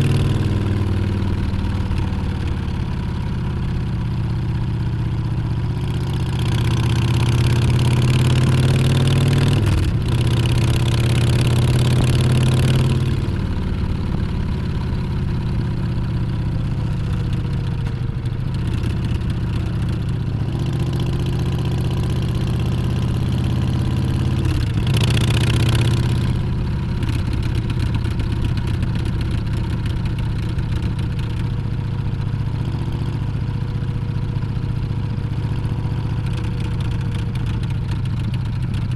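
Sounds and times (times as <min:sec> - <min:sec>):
motorcycle engine shifting gears: 0:00.0 - 0:03.3, 0:05.6 - 0:38.9.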